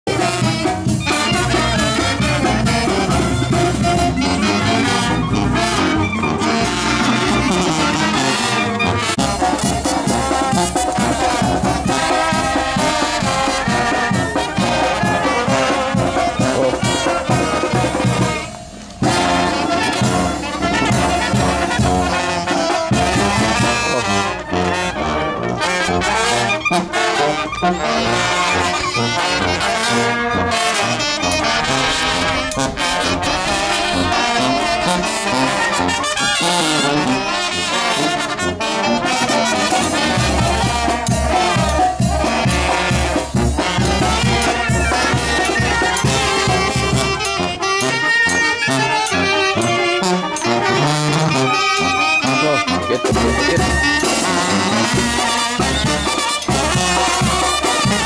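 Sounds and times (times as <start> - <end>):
brass band music: 0.0 - 58.0.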